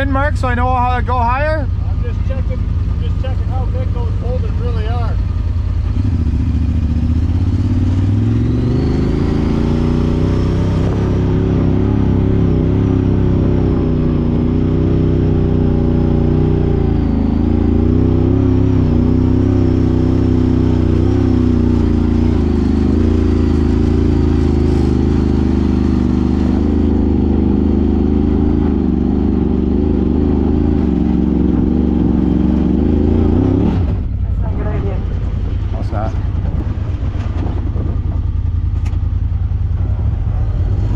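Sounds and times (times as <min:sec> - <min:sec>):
utility vehicle engine revving: 0:00.0 - 0:40.9.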